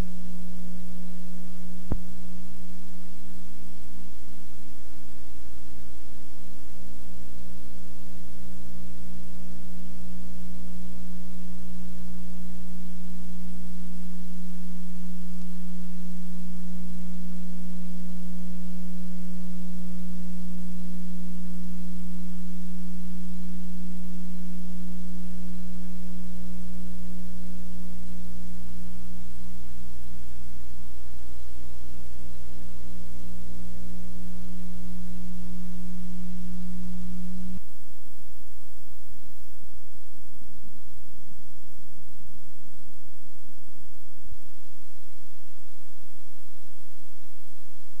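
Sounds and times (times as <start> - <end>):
steady electrical hum: 0.0 - 48.0.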